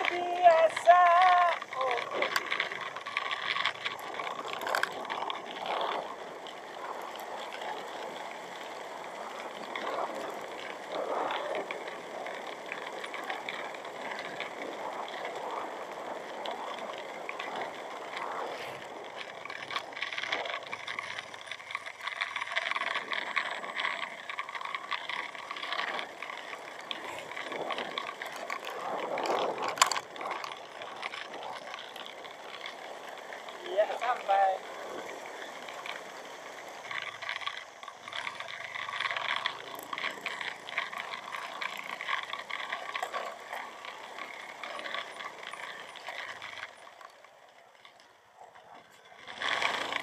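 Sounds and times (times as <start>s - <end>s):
scooter engine and road noise: 0.0s - 50.0s.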